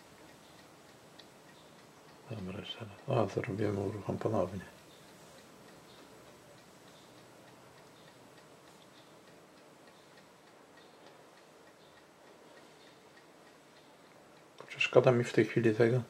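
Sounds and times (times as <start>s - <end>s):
faint light ticks: 0.0s - 16.0s.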